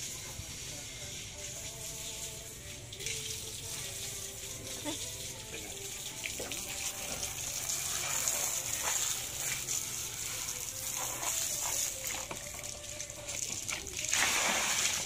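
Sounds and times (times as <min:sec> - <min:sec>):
water splashing onto concrete: 0:01.3 - 0:15.0.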